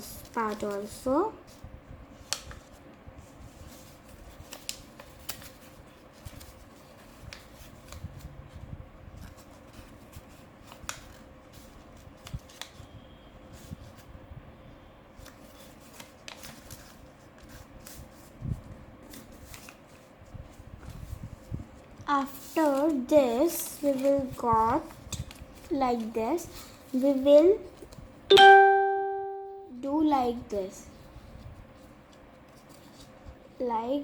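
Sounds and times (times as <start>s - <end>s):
paper being folded and creased: 0.0s - 1.6s, 2.2s - 14.1s, 15.1s - 28.0s, 30.9s - 34.0s.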